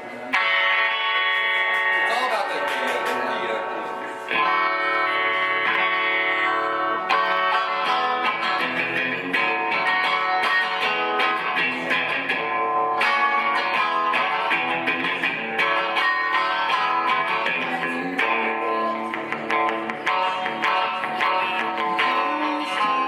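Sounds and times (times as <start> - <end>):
guitar strummed and picked: 0.0 - 23.0.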